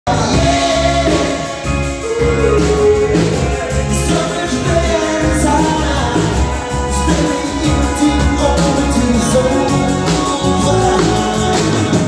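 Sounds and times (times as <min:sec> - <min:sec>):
live rock band playing: 0:00.0 - 0:12.0
person singing: 0:00.0 - 0:12.0.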